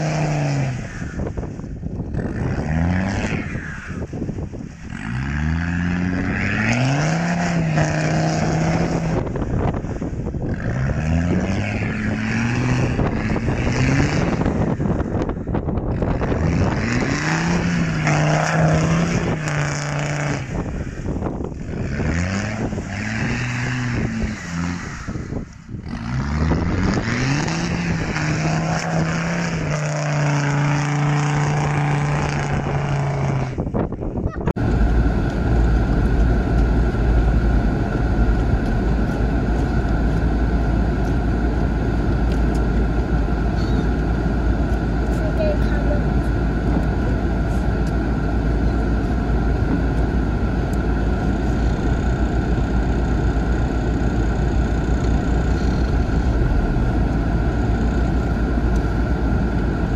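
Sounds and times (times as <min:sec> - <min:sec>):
diesel engine revving hard: 0:00.0 - 0:01.4, 0:02.0 - 0:03.7, 0:04.8 - 0:15.2, 0:15.8 - 0:33.8, 0:34.5 - 0:59.9
low engine drone: 0:00.0 - 0:59.9.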